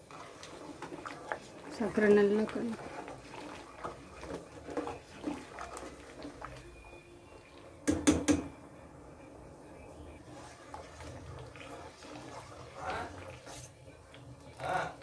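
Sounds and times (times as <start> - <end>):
spoon stirring and scraping pan: 0.0 - 8.4, 10.0 - 15.0.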